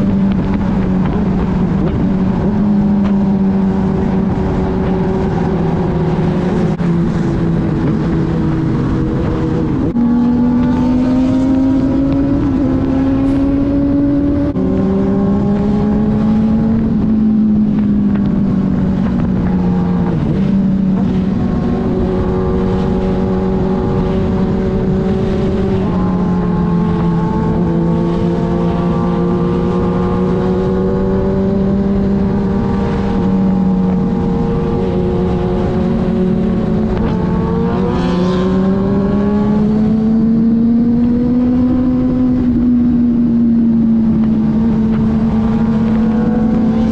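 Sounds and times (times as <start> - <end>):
motorcycle engine at speed: 0.0 - 46.9
wind rushing: 0.0 - 46.9.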